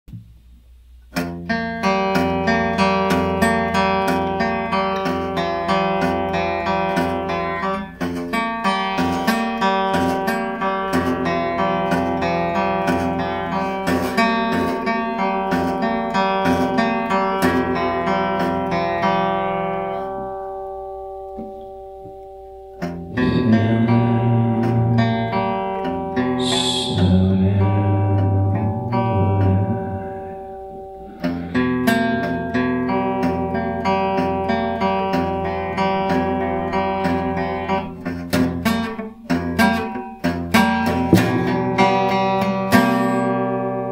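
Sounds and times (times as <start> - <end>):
acoustic guitar playing blues: 1.1 - 43.9.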